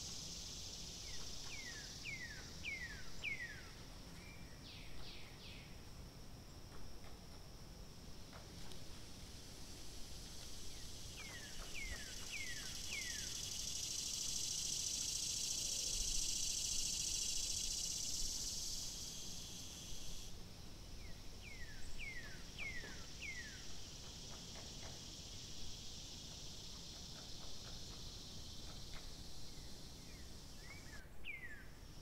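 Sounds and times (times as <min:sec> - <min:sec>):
high insect buzz: 0:00.0 - 0:32.0.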